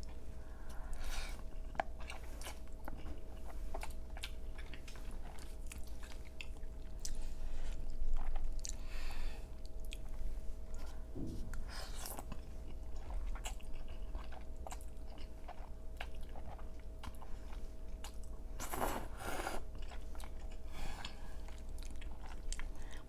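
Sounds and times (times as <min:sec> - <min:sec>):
wet chewing and smacking: 0:01.0 - 0:08.9, 0:09.5 - 0:19.0, 0:19.7 - 0:23.0.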